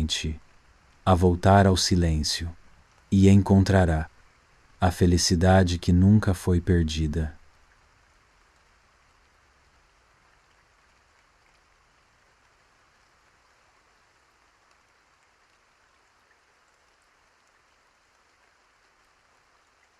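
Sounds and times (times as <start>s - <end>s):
faint rain ambience: 0.0s - 19.9s.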